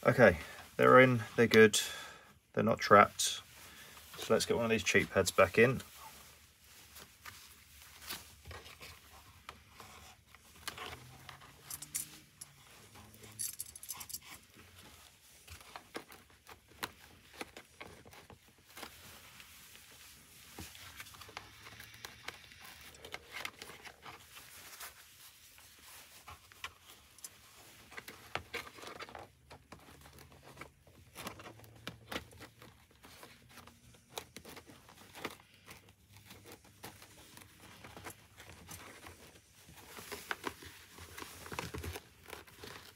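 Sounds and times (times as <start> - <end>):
fabric and foam rustling: 0.0 - 42.9.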